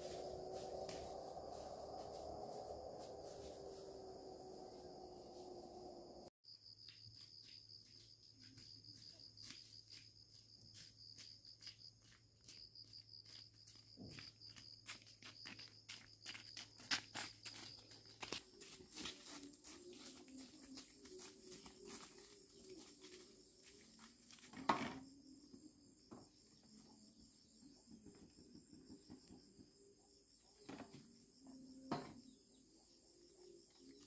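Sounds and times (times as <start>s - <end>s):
high insect trill: 0.0s - 34.0s.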